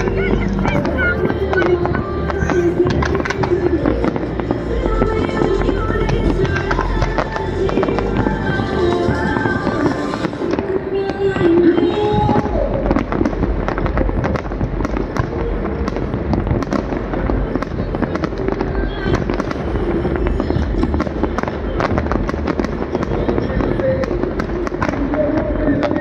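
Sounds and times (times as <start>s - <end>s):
fireworks popping and banging: 0.0s - 26.0s.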